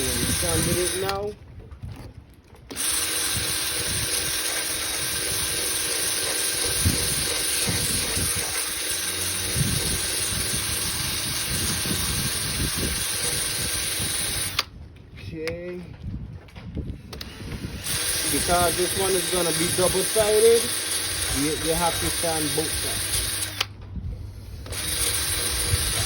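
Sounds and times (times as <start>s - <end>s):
power sander running: 0.0s - 1.3s, 2.7s - 14.7s, 17.1s - 23.7s, 24.5s - 26.0s.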